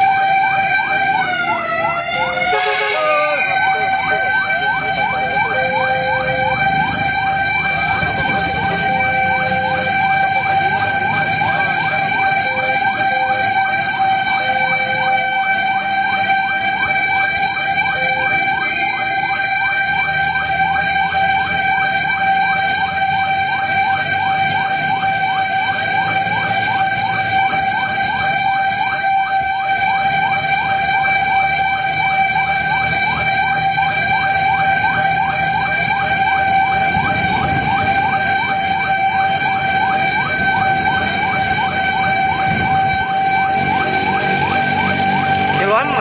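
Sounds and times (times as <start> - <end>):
electronic siren yelping: 0.0 - 46.0
truck engine running low: 0.0 - 46.0.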